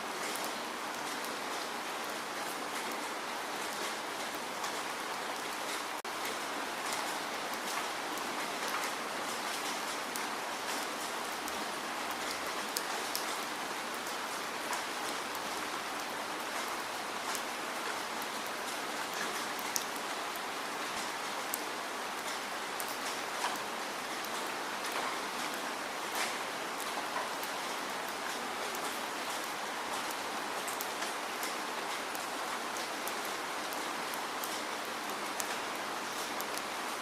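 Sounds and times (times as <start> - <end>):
raindrops ticking on a surface: 0.1 - 37.0.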